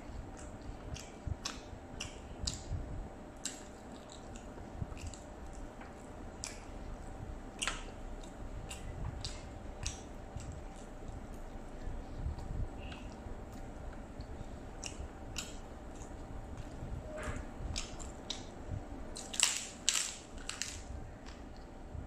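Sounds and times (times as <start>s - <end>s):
chewing with wet mouth clicks: 0.1s - 18.5s.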